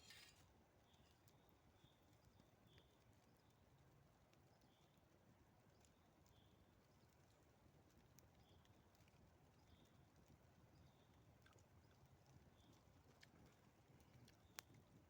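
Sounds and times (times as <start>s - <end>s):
campfire crackles: 0.0s - 15.0s.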